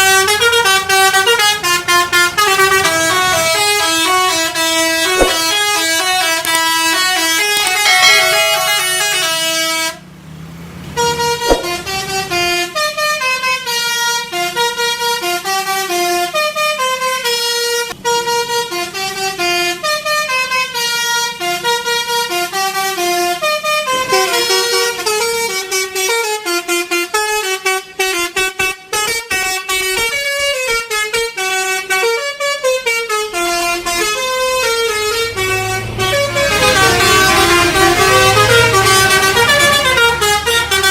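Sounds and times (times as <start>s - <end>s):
bus musical horn playing a tune: 0.0s - 10.1s, 10.8s - 40.9s.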